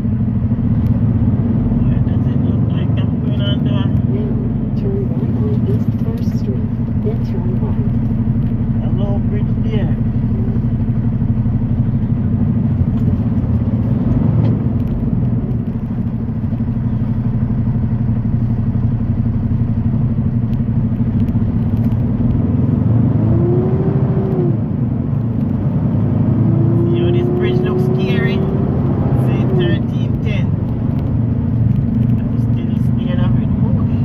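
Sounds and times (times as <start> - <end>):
diesel truck engine drone: 0.0 - 34.0
road noise: 0.0 - 34.0.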